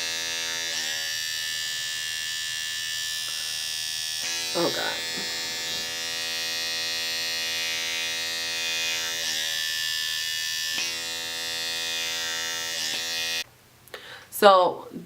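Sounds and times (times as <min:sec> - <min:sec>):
small vacuum motor whining: 0:00.0 - 0:13.4.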